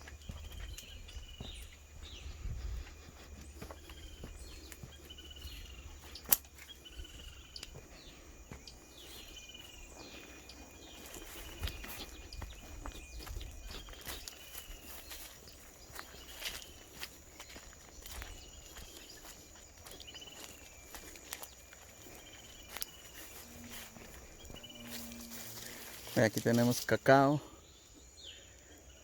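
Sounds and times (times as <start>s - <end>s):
footsteps on ground: 0.0s - 28.1s.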